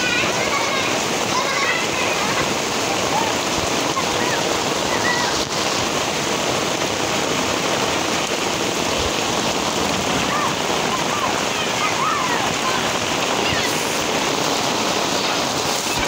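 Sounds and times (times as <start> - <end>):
heavy rain on pavement and roofs: 0.0 - 16.0.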